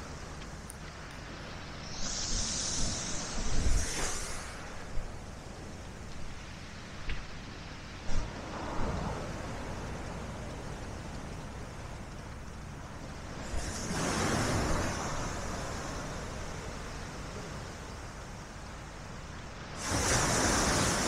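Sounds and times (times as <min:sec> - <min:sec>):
sea waves washing onto shore: 0:00.0 - 0:21.0
wind: 0:00.0 - 0:21.0.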